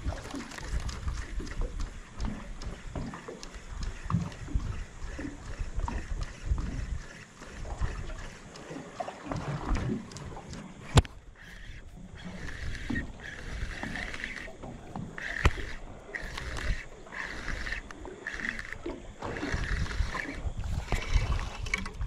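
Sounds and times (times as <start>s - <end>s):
water splashing and sloshing: 0.0s - 22.0s
clicks: 0.6s - 22.0s.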